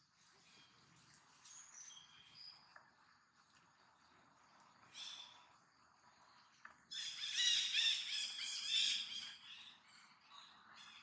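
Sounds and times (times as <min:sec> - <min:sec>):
faint forest background: 0:00.0 - 0:11.0.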